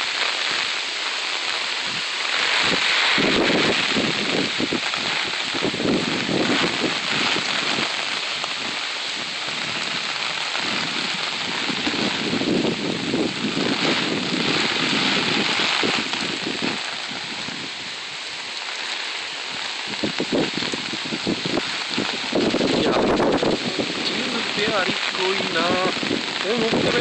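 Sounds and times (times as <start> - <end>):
heavy rain falling: 0.0 - 27.0
wind buffeting microphone: 1.6 - 27.0.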